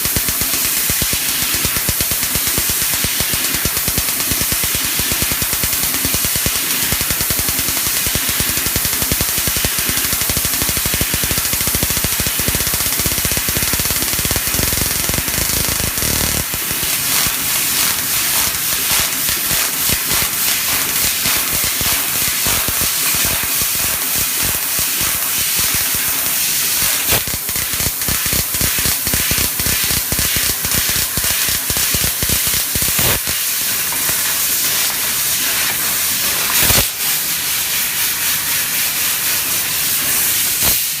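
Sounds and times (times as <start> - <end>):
laser cutter cutting metal: 0.0 - 41.0.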